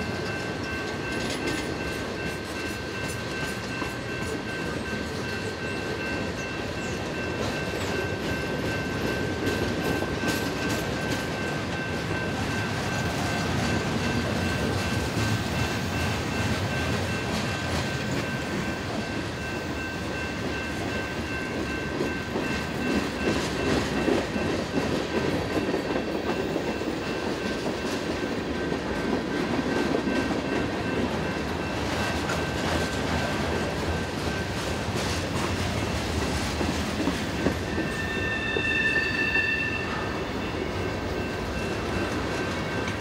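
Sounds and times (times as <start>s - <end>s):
crossing warning bell: 0.0s - 43.0s
train wheels clacking on rails: 0.0s - 43.0s.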